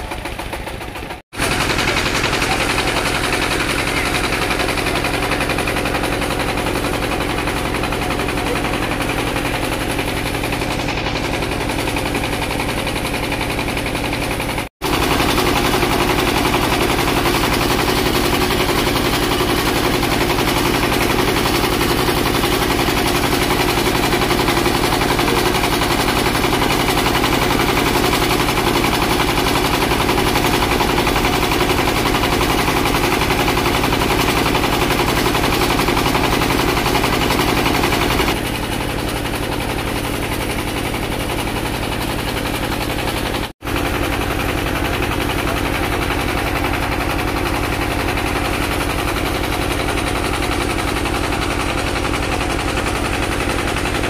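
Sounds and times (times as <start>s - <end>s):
diesel boat engine chugging: 0.0s - 54.0s.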